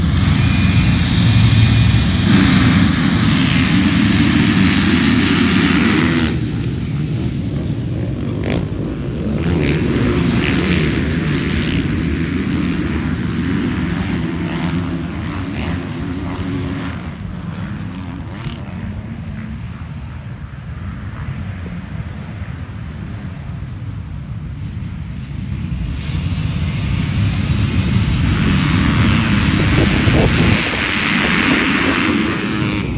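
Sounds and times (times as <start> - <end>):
motocross bikes engines revving: 0.0 - 21.6, 24.6 - 32.9.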